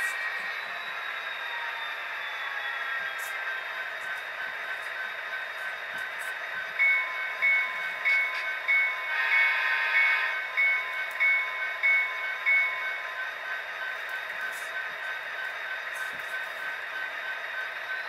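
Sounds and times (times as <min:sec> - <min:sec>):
locomotive bell ringing: 0:02.4 - 0:18.0.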